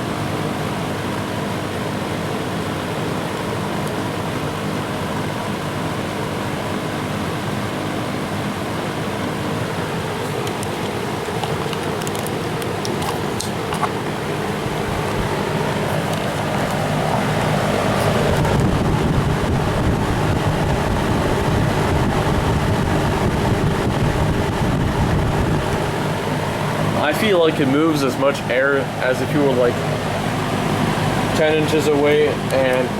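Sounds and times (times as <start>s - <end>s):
box fan running: 0.0s - 32.9s.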